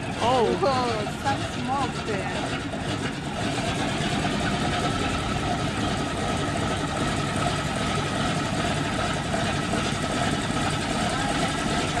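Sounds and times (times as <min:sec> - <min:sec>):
radial aircraft engines idling: 0:00.0 - 0:12.0.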